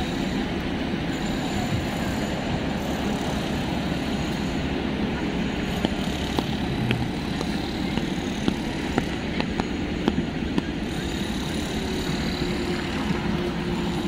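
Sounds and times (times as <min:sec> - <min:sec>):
city traffic in rain: 0:00.0 - 0:14.0.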